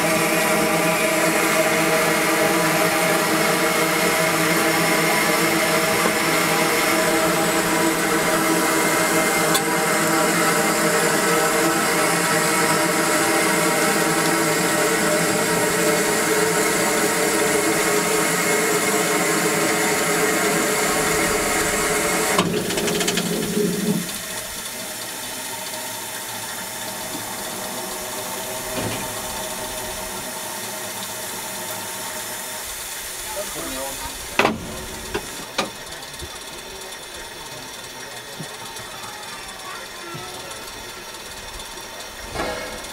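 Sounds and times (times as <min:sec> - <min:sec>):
steam locomotive hissing: 0:00.0 - 0:42.9.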